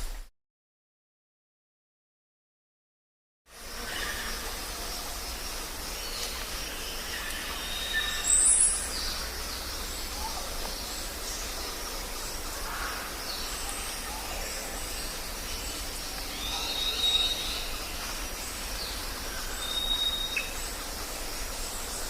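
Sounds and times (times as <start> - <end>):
background hiss and low rumble: 3.6 - 22.0.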